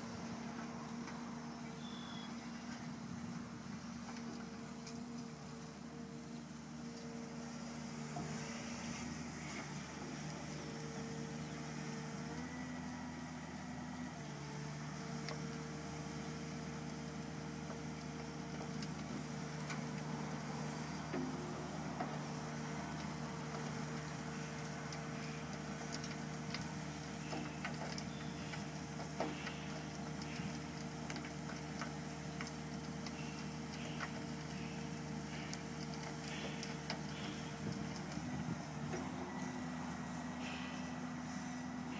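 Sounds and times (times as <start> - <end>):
excavator diesel engine drone: 0.0 - 41.9.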